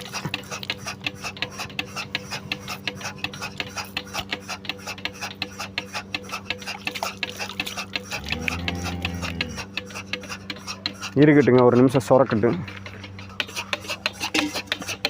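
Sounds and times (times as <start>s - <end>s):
milking machine engine humming: 0.0s - 15.0s
rapid even ticking: 0.2s - 15.0s.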